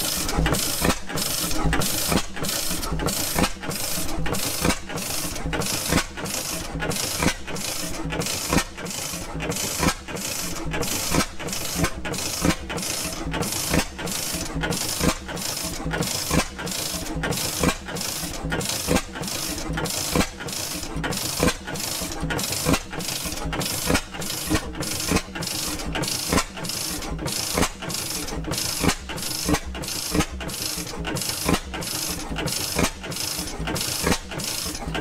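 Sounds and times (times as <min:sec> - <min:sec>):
two-stroke engine running slowly: 0:00.0 - 0:35.0.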